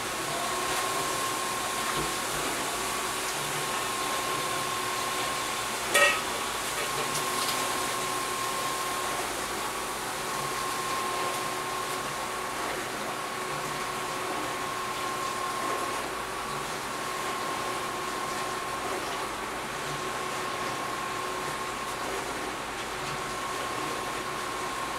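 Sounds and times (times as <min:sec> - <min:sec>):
aquarium equipment hum and hiss: 0:00.0 - 0:24.9.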